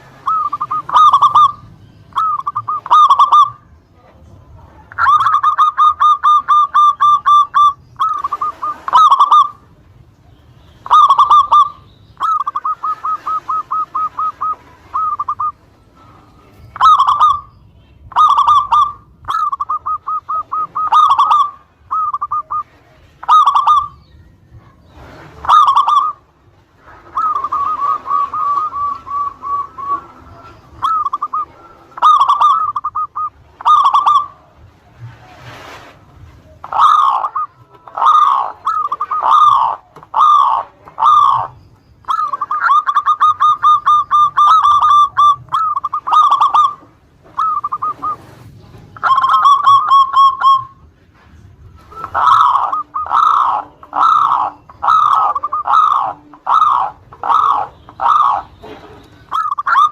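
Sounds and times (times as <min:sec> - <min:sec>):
dove cooing: 0:00.0 - 0:03.7, 0:04.5 - 0:09.8, 0:10.8 - 0:17.5, 0:18.1 - 0:59.9.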